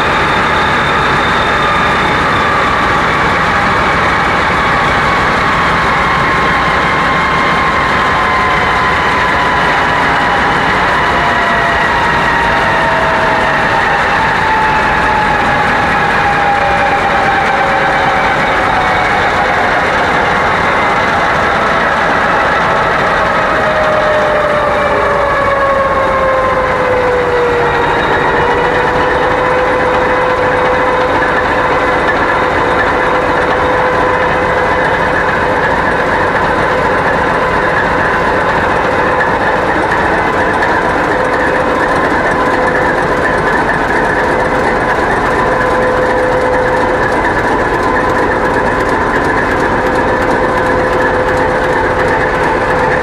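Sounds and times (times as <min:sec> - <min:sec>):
diesel engine running at high revs: 0:00.0 - 0:53.0
engine whine: 0:00.0 - 0:53.0.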